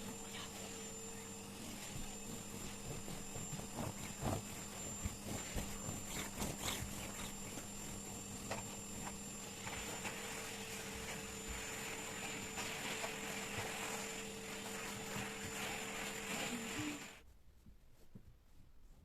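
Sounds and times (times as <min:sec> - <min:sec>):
appliance motor humming and whining: 0:00.0 - 0:17.2.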